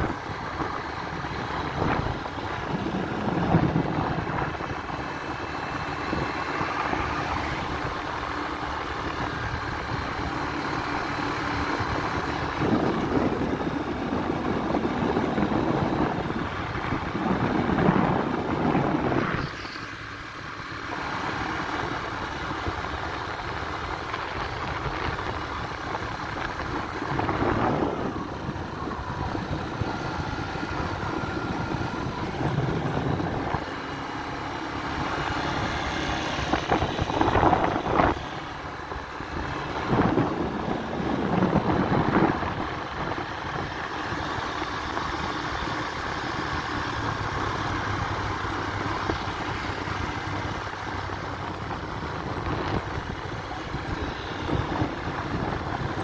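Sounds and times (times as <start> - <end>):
scooter engine running: 0.0 - 56.0
wind and road noise: 0.0 - 56.0.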